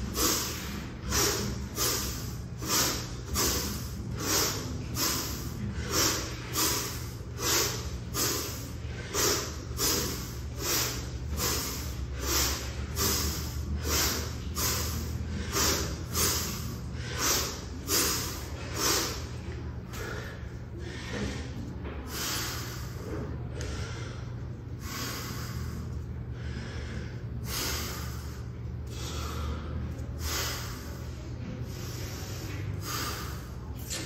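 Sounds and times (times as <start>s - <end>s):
man breathing forcefully: 0.0s - 34.0s.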